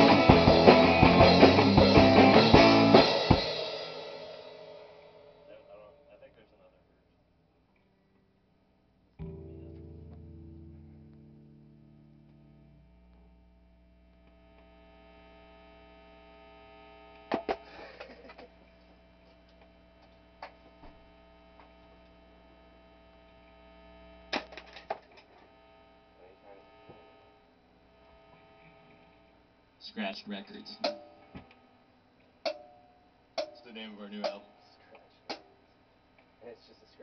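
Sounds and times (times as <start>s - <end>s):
amplifier mains hum: 0.0s - 37.0s.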